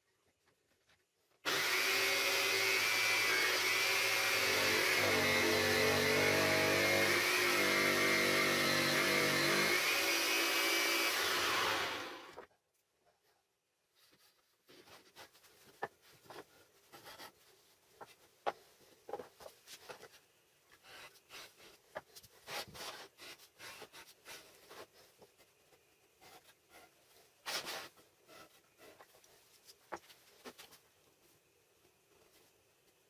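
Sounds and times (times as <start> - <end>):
hand work on wooden parts: 0.1 - 12.5, 14.0 - 31.2.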